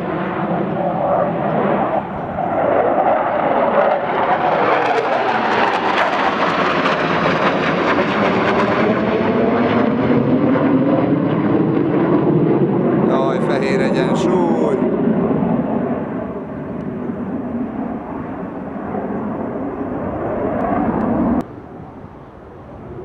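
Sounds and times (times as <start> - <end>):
fighter jets flying overhead: 0.0 - 23.0.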